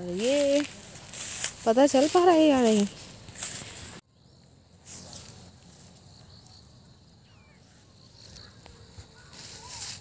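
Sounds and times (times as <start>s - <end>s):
footsteps rustling dry straw: 0.0s - 4.0s, 4.8s - 6.4s, 7.5s - 10.0s
faint insect chirping: 0.0s - 10.0s.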